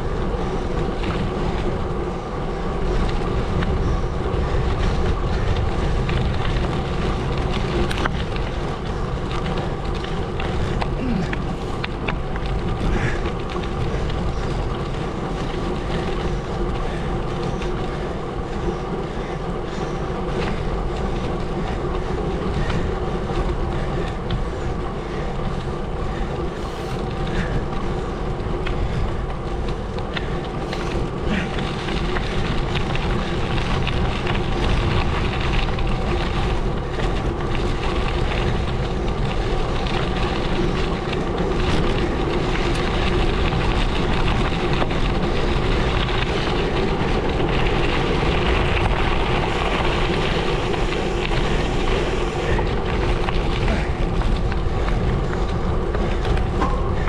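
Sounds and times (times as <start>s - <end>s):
bike tyres on gravel: 0.0s - 57.0s
steady hum: 0.0s - 57.0s.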